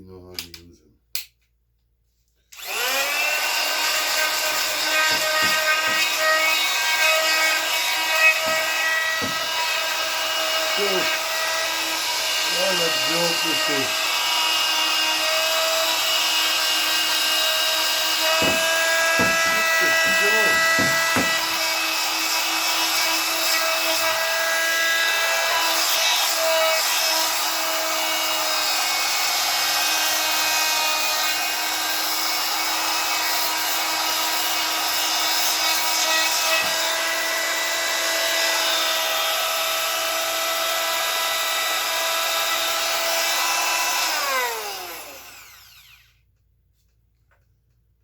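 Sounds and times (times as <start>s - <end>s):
power tool motor whining: 2.5s - 46.2s.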